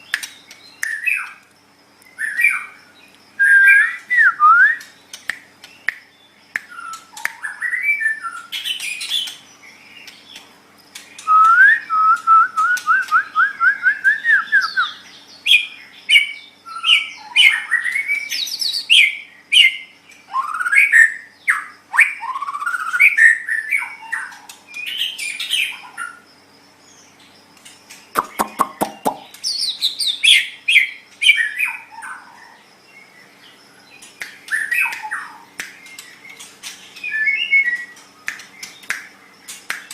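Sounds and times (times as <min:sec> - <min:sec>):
songbird whistling and trilling: 0:00.0 - 0:01.4, 0:02.0 - 0:02.8, 0:03.4 - 0:10.0, 0:11.1 - 0:26.2, 0:28.1 - 0:32.3, 0:34.2 - 0:38.9.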